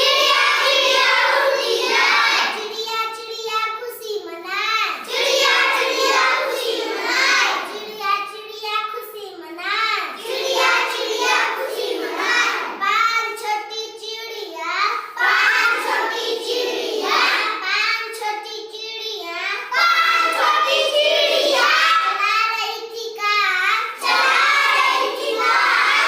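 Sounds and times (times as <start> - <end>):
child singing: 0.0 - 26.0.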